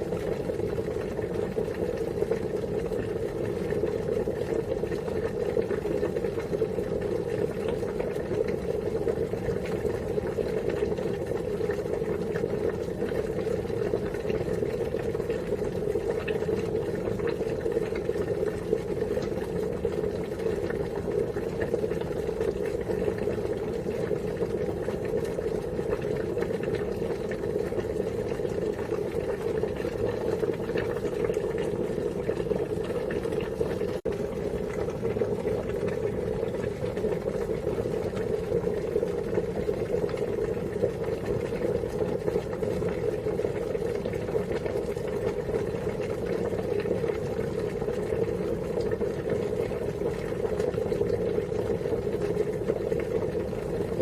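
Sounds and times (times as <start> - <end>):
water boiling hard: 0.0 - 54.0.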